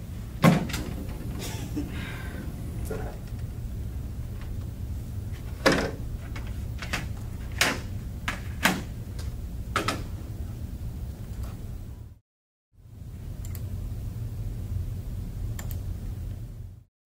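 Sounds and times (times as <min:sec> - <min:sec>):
steady low hum: 0:00.0 - 0:12.2, 0:12.8 - 0:16.9.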